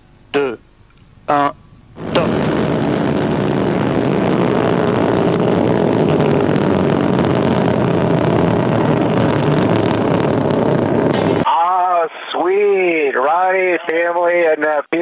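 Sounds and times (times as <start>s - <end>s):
rocket engines rumbling: 0.3s - 15.0s.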